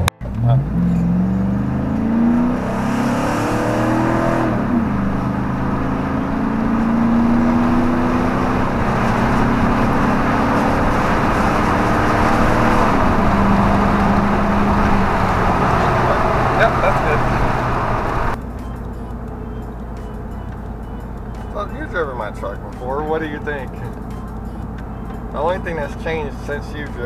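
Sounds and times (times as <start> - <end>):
engine accelerating with upshifts: 0.0 - 27.0.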